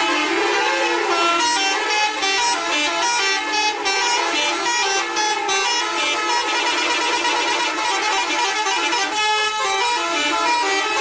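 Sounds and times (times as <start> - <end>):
bus horn playing a tune: 0.0 - 11.0.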